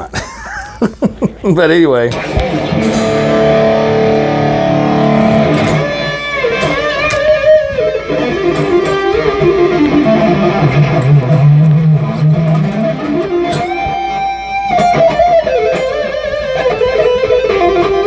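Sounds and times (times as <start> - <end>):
electric guitar lead: 2.1 - 18.0.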